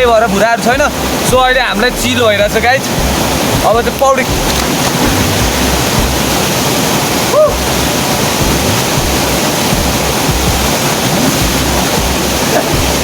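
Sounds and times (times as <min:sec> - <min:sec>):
water rushing over waterfall: 0:00.0 - 0:13.0
wind buffeting microphone: 0:00.0 - 0:13.0.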